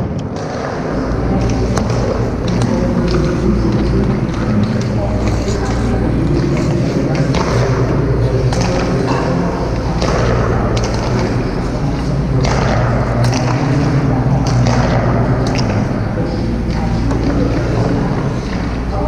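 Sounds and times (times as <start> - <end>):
steady low hum: 0.0 - 19.0
hockey sticks and pucks clicking: 0.2 - 18.9.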